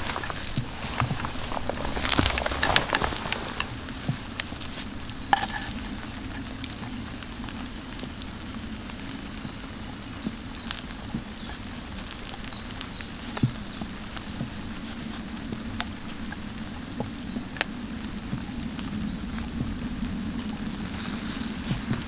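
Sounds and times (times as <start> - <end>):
light pattering and clicks: 0.0 - 22.0.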